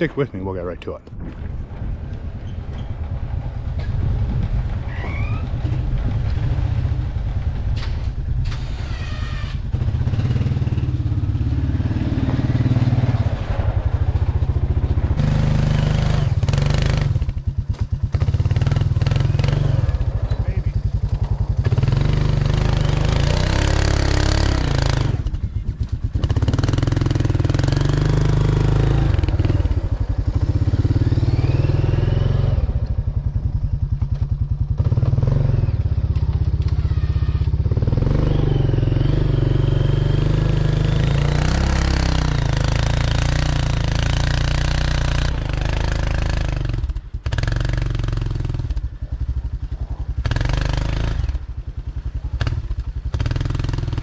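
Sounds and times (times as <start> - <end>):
atv engine revving: 1.8 - 54.0.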